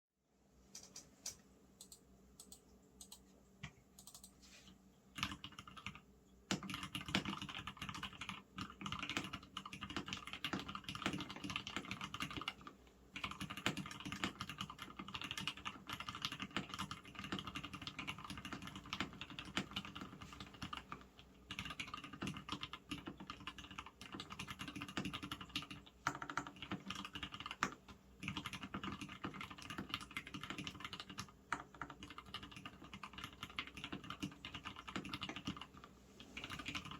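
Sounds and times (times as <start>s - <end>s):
typing on mechanical keyboard: 4.0s - 4.3s, 5.2s - 36.9s.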